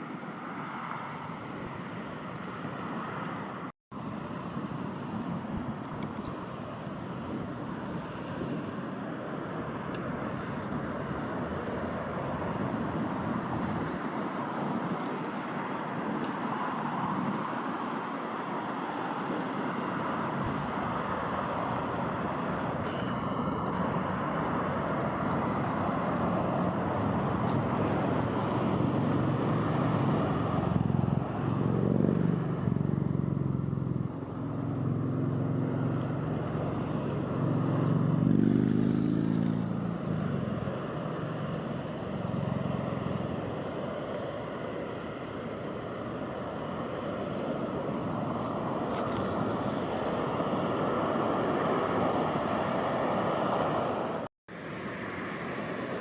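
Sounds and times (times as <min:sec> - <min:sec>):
engine noise: 0:00.0 - 0:56.0.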